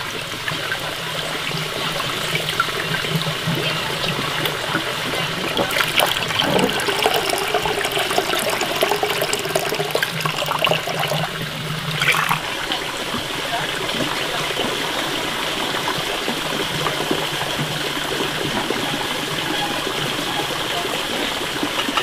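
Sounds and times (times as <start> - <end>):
water poured into basin: 0.0 - 22.0
hands stirring beans in water: 0.1 - 22.0.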